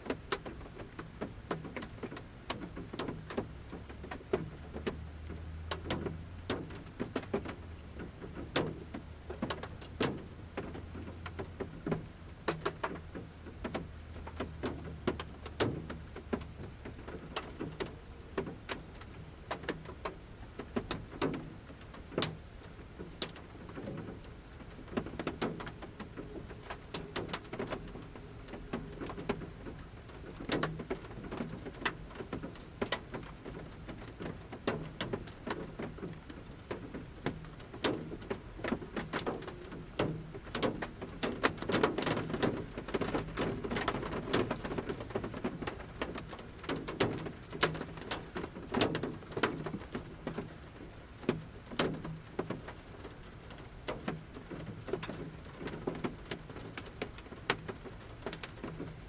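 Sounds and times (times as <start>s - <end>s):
raindrops tapping on metal roof: 0.0s - 59.0s
soft rain hiss: 0.0s - 59.0s.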